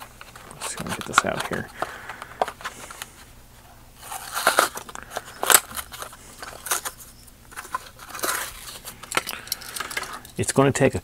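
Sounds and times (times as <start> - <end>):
plastic packaging crinkling: 0.0 - 3.3, 4.0 - 10.4.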